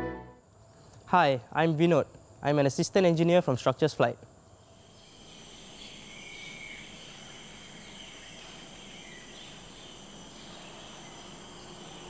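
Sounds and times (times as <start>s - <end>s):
insects trilling: 0.4s - 12.0s.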